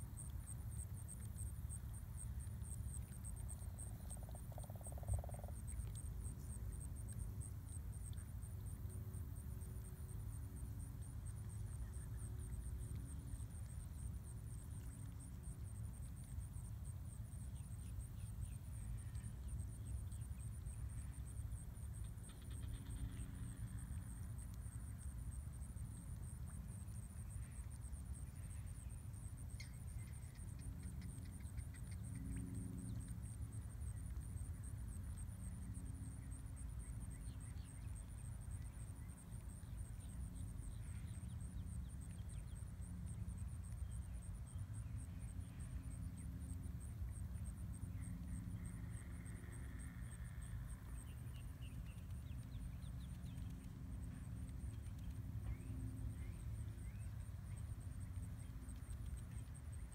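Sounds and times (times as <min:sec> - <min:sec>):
insect trill: 0:00.0 - 0:59.9.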